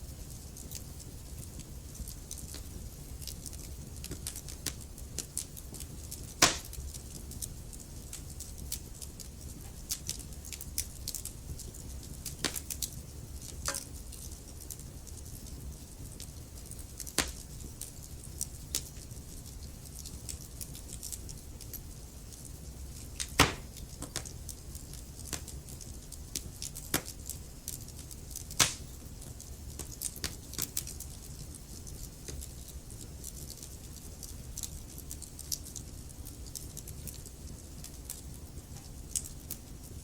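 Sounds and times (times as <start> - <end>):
wood logs crackling in fireplace: 0.0 - 40.0.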